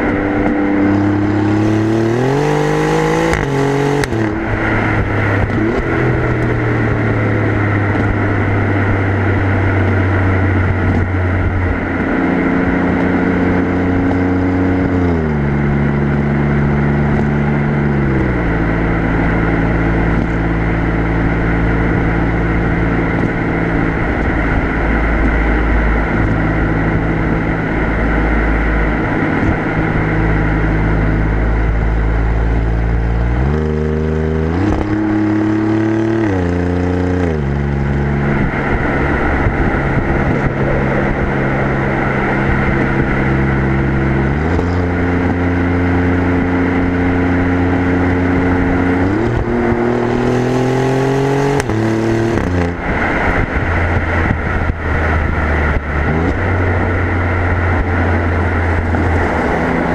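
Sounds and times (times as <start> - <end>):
car exhaust cruising: 0.0 - 59.9
road noise: 0.0 - 59.9
wind noise: 0.0 - 59.9.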